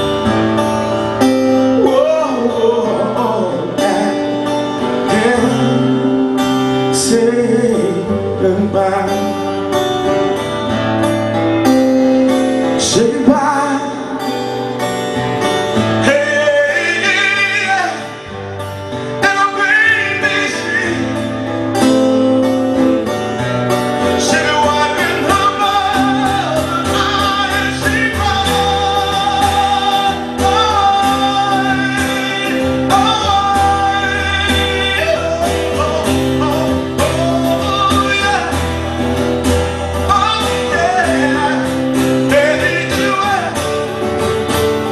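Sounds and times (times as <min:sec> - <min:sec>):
guitar: 0:00.0 - 0:44.9
melodic singing: 0:00.0 - 0:44.9.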